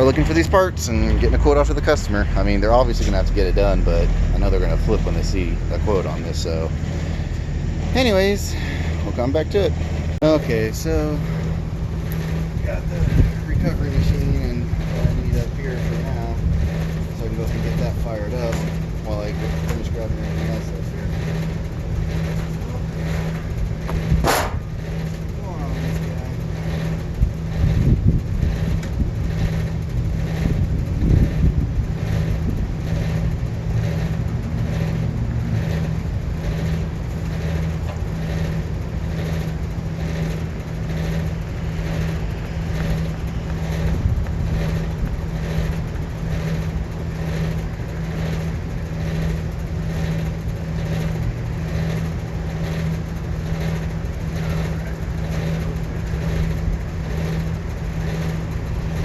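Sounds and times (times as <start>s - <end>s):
refrigerant recovery machine humming: 0.0s - 59.0s.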